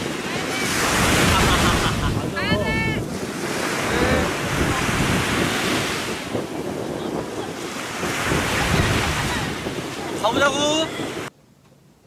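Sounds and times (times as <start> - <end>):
small waves washing on shore: 0.0 - 11.3
wind on microphone: 0.0 - 11.3.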